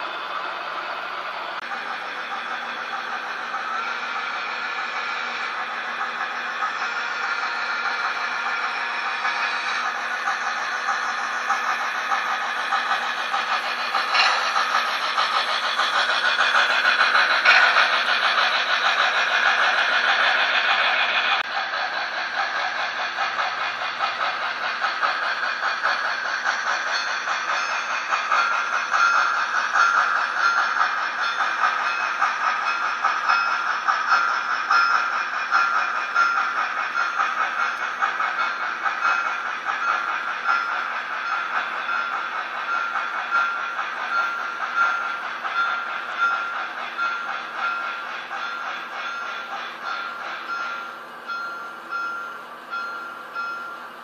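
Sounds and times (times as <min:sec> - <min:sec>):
model train wheels clattering: 0:00.0 - 0:53.8.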